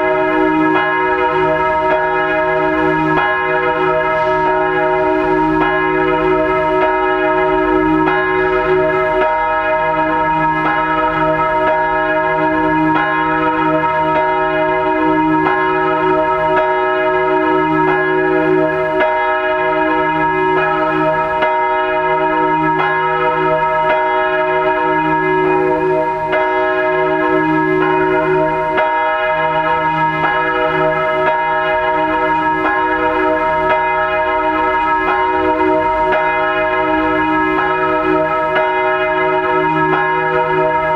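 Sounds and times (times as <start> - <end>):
church bell ringing: 0.0 - 40.9.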